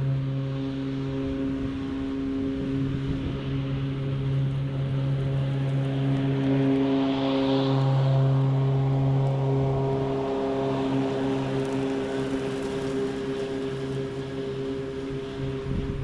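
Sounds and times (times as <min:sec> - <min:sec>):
electric lawn mower humming: 0:00.0 - 0:16.0.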